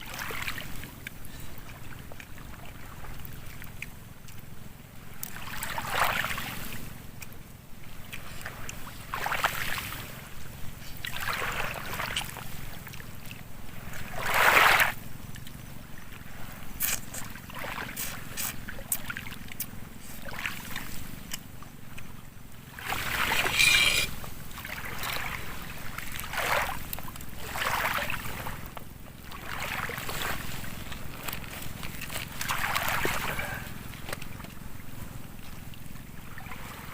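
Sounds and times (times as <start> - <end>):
small waves washing in: 0.0 - 36.9.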